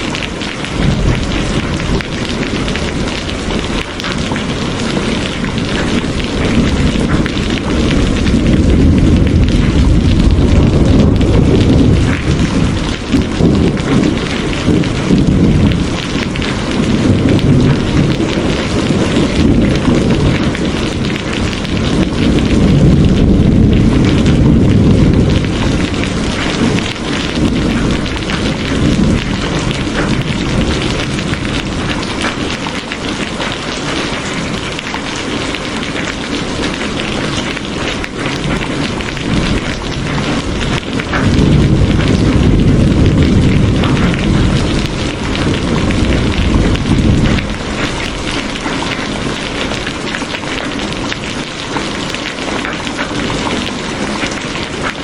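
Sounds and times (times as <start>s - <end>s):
heavy rain: 0.0s - 55.0s
low rolling thunder: 0.0s - 55.0s.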